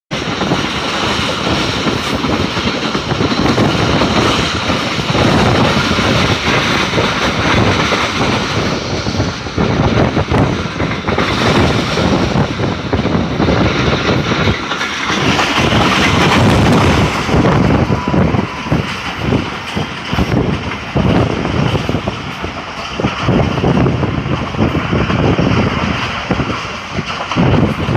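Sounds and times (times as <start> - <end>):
train wheels clattering on rails: 0.1 - 27.9.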